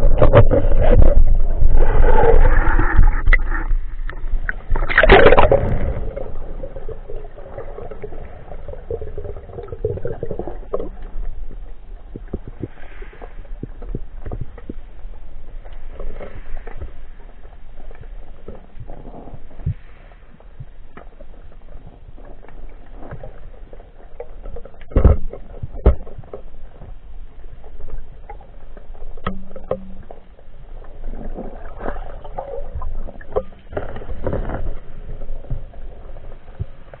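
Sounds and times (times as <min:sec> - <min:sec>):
underwater water movement: 0:00.0 - 0:37.0.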